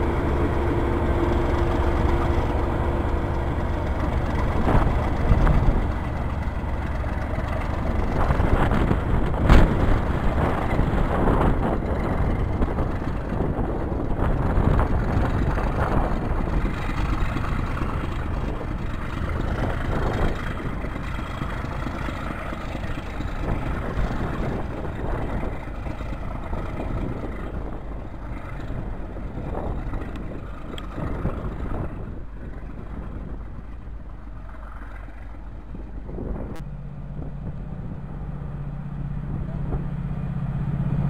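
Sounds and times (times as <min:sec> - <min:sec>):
wind on microphone: 0:00.0 - 0:38.3
diesel locomotive engine rumble: 0:00.0 - 0:41.0
distant diesel train hum: 0:00.0 - 0:41.0.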